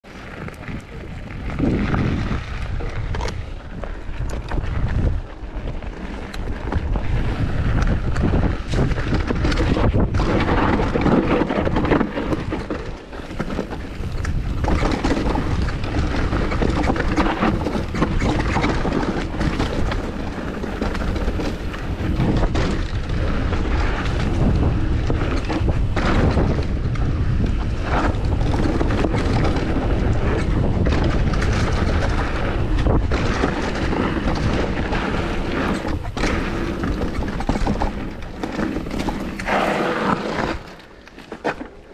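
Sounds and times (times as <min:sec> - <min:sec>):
wind buffeting microphone: 0:00.0 - 0:40.7
bike clicks and rattles: 0:00.0 - 0:41.9.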